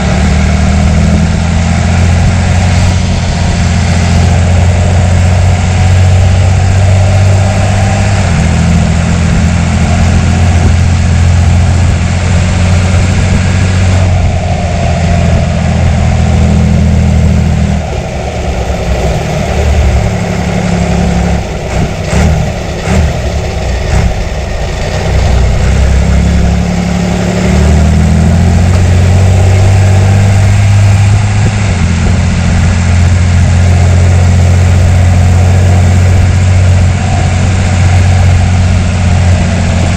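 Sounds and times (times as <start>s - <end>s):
diesel engine running: 0.0s - 39.9s
engine knocks: 0.0s - 39.9s.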